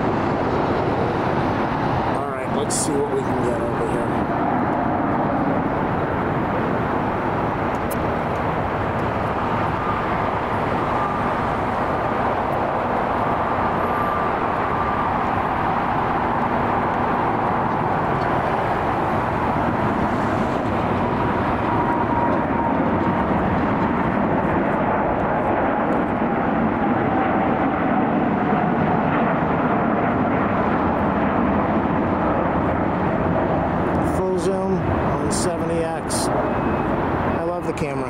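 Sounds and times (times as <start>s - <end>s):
jet airliner flying by: 0.0s - 38.0s.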